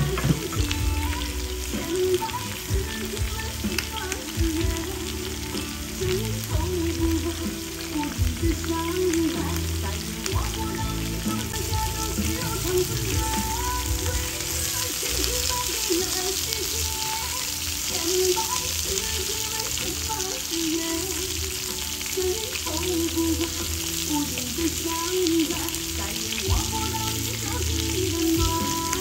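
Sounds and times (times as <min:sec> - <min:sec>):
food sizzling on grill pan: 0:00.0 - 0:29.0
pop song in background: 0:00.0 - 0:29.0.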